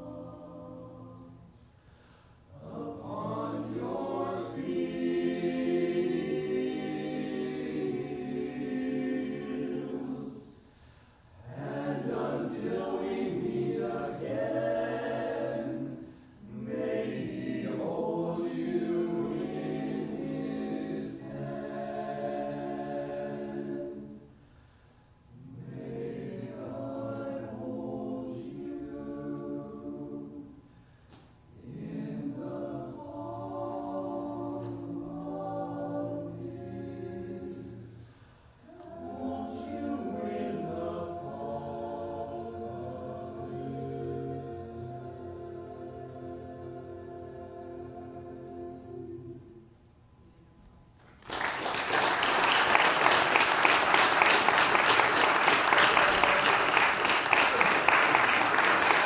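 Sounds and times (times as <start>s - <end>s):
a cappella choir singing: 0.0s - 50.4s, 51.3s - 59.0s.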